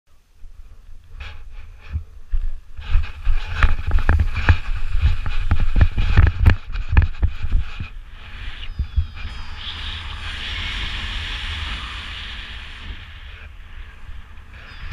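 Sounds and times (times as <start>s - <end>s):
wind buffeting microphone: 1.0s - 14.9s
rush of air: 2.7s - 14.9s.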